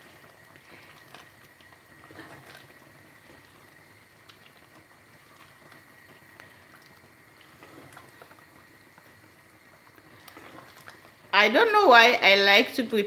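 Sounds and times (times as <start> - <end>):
spatula stirring sauce: 0.0 - 11.3
sauce bubbling and popping: 0.0 - 11.8.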